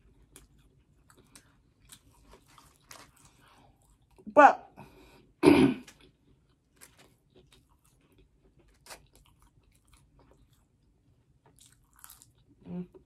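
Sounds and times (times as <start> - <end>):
faint chewing with crunches: 0.0 - 4.3, 5.2 - 13.0.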